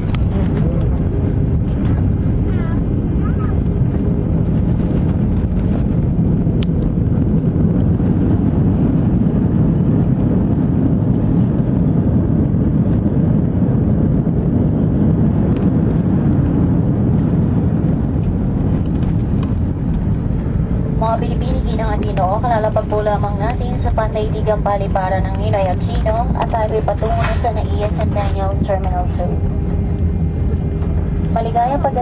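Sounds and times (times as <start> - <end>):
airliner cabin engine roar: 0.0 - 32.0.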